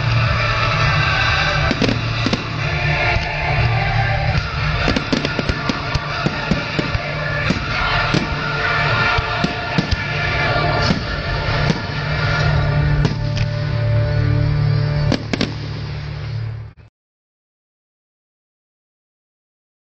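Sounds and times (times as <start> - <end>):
fireworks bangs and crackles: 0.0 - 16.7
loud music with heavy bass: 0.0 - 16.8.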